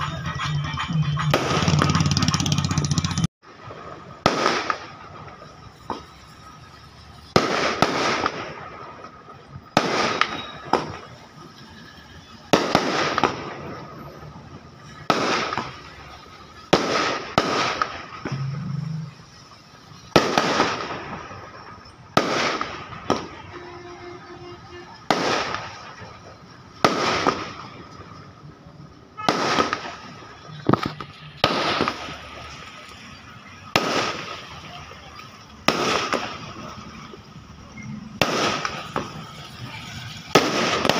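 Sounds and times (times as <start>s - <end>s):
fireworks bangs echoing: 0.0s - 40.9s.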